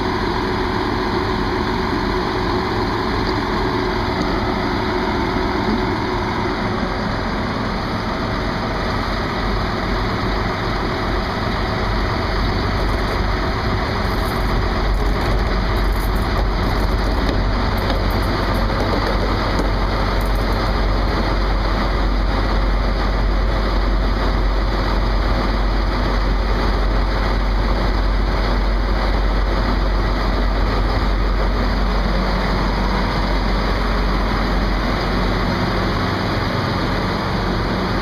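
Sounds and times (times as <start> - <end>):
diesel train engine rumbling: 0.0 - 38.0.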